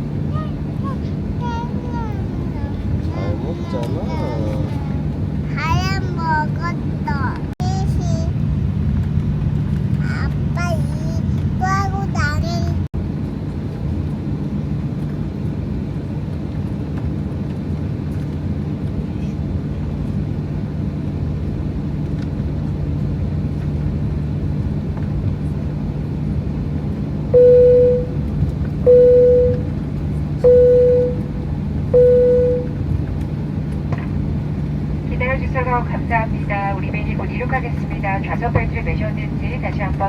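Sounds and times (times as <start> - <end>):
airliner cabin hum: 0.0 - 40.0.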